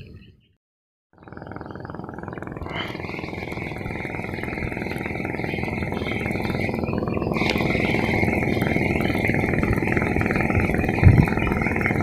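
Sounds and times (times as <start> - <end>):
fishing reel whirring: 1.2 - 12.0.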